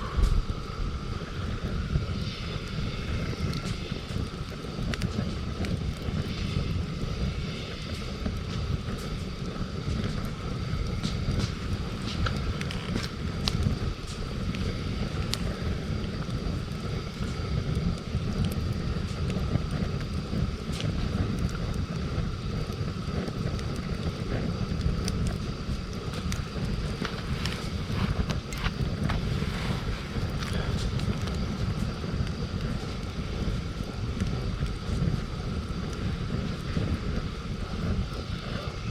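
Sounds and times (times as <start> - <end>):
campfire crackling: 0.0 - 38.9
wind rumble on microphone: 0.0 - 38.9.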